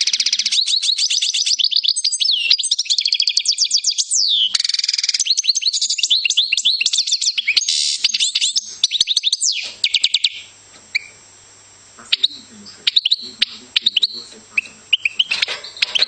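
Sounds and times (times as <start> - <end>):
goldfinch singing: 0.0 - 11.2, 12.0 - 16.0.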